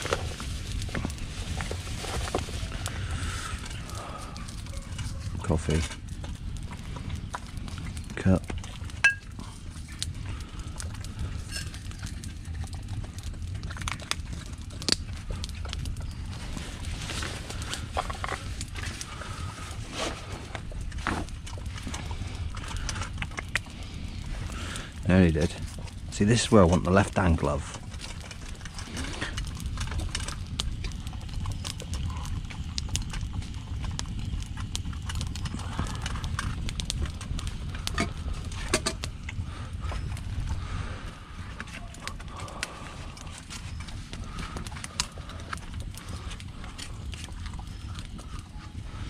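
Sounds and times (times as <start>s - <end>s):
low steady rumble: 0.0s - 49.0s
wood fire crackling: 0.0s - 49.0s.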